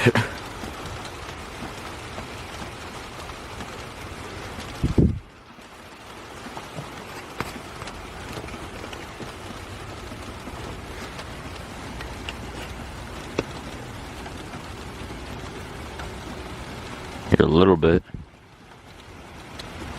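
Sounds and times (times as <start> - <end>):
rain falling: 0.0 - 19.9
raindrops ticking close by: 0.0 - 19.9.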